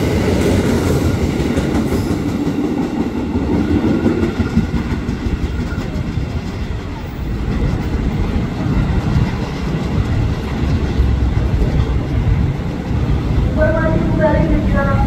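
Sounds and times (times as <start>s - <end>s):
rail clatter: 0.0s - 15.0s
train wheels rumbling: 0.0s - 15.0s.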